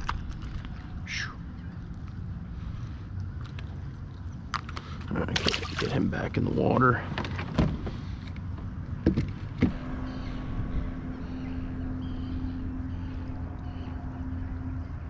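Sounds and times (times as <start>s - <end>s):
low water noise: 0.0s - 15.0s
steady low hum: 0.0s - 15.0s.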